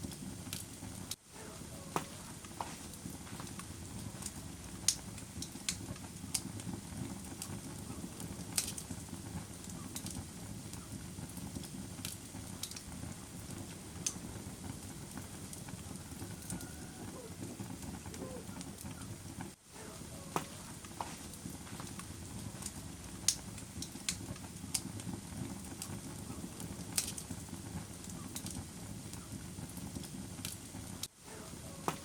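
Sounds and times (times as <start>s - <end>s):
wood fire pops and snaps: 0.0s - 1.2s, 1.9s - 19.6s, 20.3s - 32.0s
flames rumbling: 0.0s - 32.0s.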